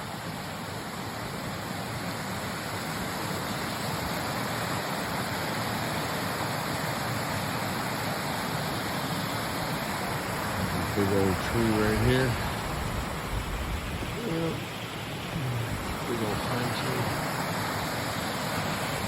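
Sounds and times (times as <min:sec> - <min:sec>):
creek rushing over cascades: 0:00.0 - 0:19.0.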